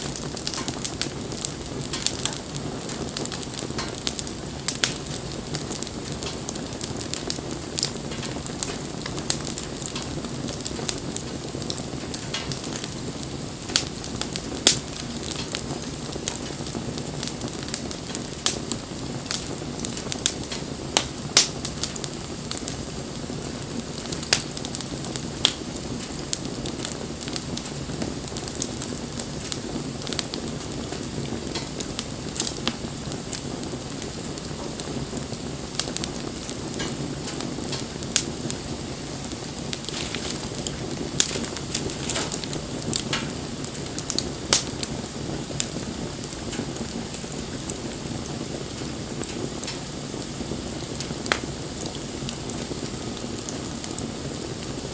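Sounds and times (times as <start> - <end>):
bonfire low rushing: 0.0 - 54.9
fire crackles and pops: 0.0 - 54.9.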